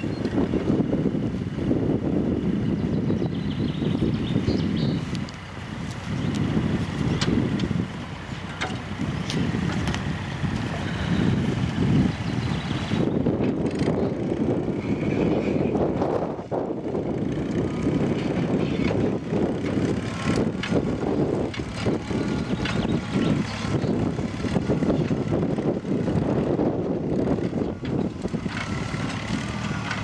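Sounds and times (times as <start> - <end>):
tractor engine running under load: 0.0 - 30.0.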